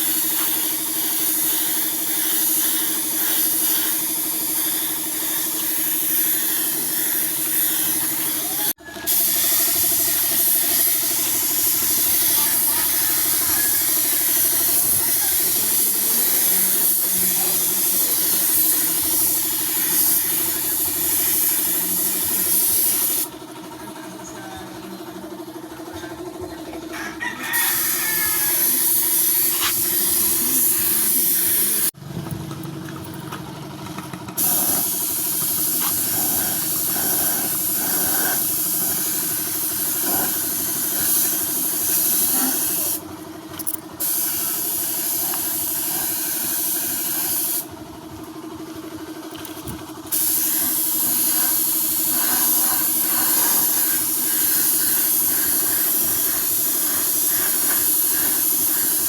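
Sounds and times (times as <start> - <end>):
spray hissing: 0.0 - 23.3, 27.6 - 32.0, 34.4 - 43.0, 44.0 - 47.7, 50.1 - 59.0.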